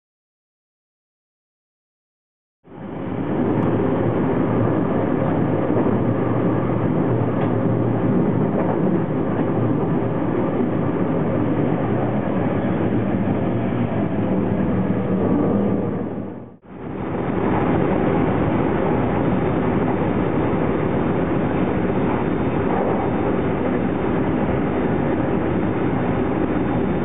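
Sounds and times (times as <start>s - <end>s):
train wheels rumbling on rail: 2.9s - 27.0s.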